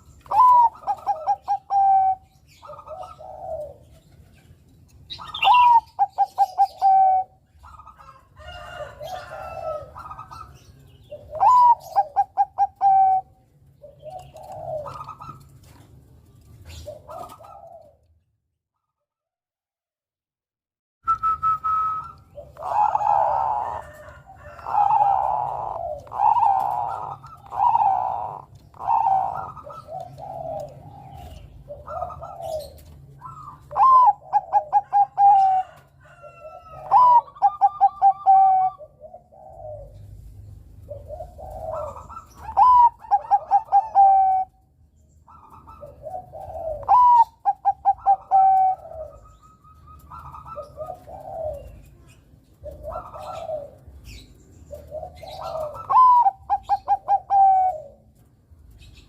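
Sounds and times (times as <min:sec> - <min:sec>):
dove cooing: 0:00.0 - 0:18.3, 0:21.2 - 0:59.0.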